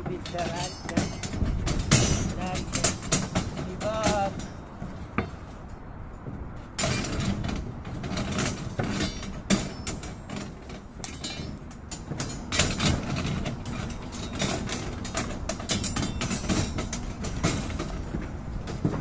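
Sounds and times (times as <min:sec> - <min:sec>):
rebar and wire clinking: 0:00.0 - 0:19.0.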